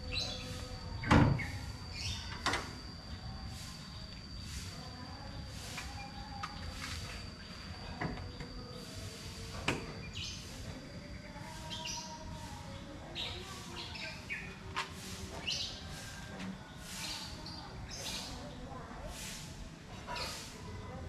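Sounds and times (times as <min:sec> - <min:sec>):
birds chirping: 0:00.0 - 0:19.4.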